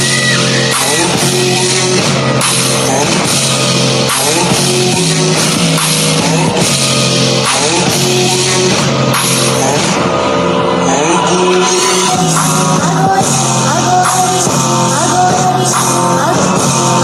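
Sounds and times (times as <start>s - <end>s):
person singing: 0.0s - 6.8s, 7.4s - 17.0s
drums: 0.0s - 10.2s, 11.7s - 17.0s.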